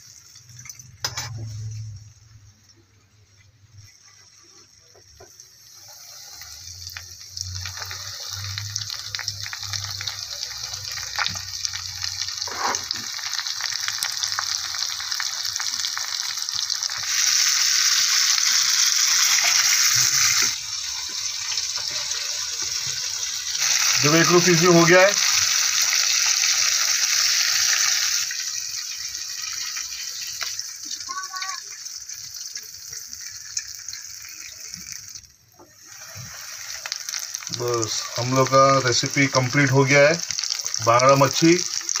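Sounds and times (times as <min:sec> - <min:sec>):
fish sizzling in hot oil: 0:00.0 - 0:42.0.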